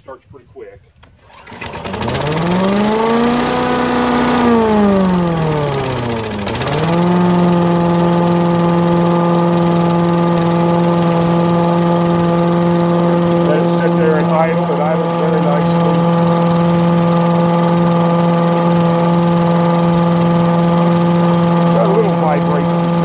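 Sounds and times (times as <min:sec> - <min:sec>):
small gas engine revving: 0:01.0 - 0:23.0.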